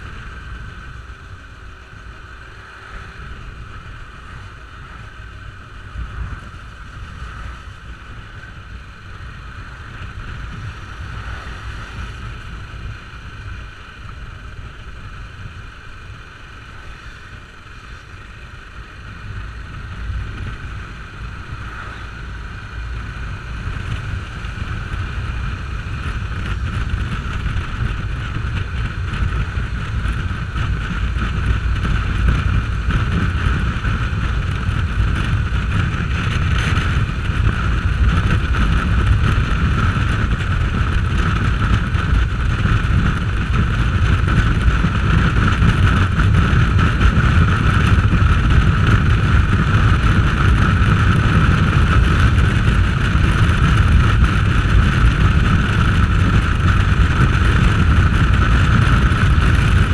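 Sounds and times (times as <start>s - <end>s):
motorcycle engine drone: 0.0s - 59.9s
wind rushing over microphone: 0.0s - 59.9s.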